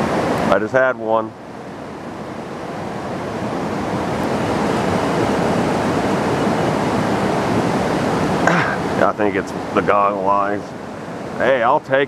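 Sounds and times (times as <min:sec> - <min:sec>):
moving river water: 0:00.0 - 0:12.0
wind: 0:00.0 - 0:12.0.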